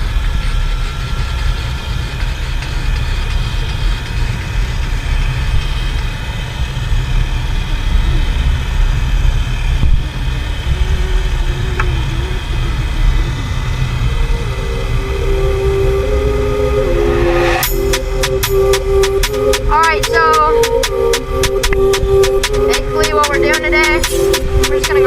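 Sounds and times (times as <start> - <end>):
faint wavering whine: 0.0 - 25.0.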